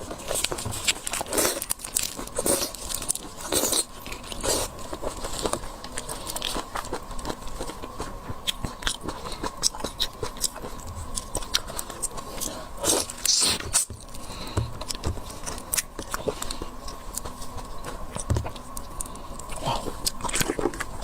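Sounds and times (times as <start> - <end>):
seafood being chewed crunchily: 0.0 - 21.0.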